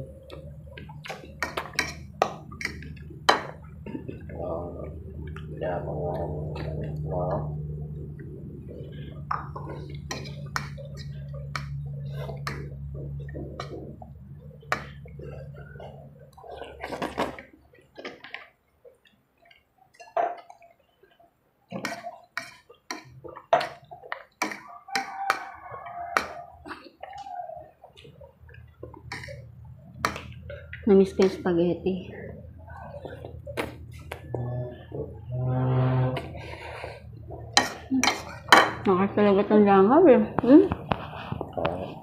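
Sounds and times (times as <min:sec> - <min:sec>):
low steady hum: 0:00.0 - 0:20.1, 0:21.8 - 0:42.0.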